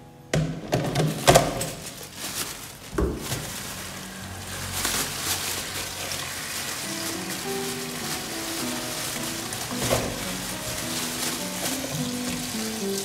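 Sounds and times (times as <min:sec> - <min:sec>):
plastic colander clattering in sink: 0:00.4 - 0:03.7, 0:04.8 - 0:13.0
plastic bag crinkling: 0:00.7 - 0:13.0.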